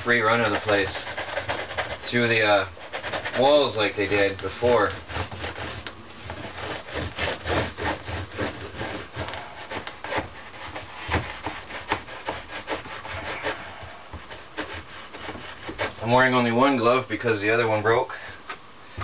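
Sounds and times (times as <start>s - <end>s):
hand scrubbing a surface: 0.0s - 17.9s.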